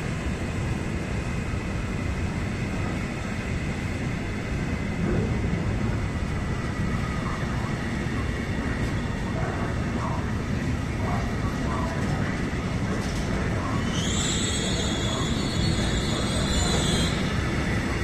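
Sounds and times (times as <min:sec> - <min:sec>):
freight wagons rumbling on track: 0:00.0 - 0:18.0.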